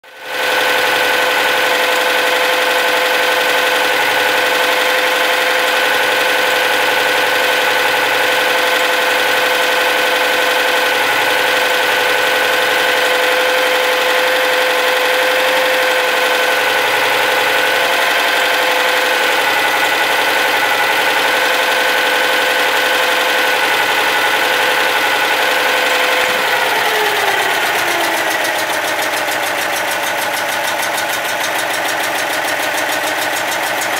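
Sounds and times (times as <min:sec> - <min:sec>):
flat-twin engine running: 0:00.1 - 0:33.9
valve gear clatter: 0:00.4 - 0:33.9.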